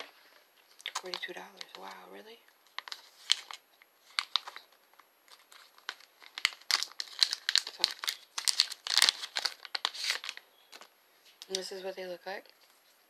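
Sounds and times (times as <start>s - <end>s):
packaging crinkling and tearing: 0.7s - 11.7s.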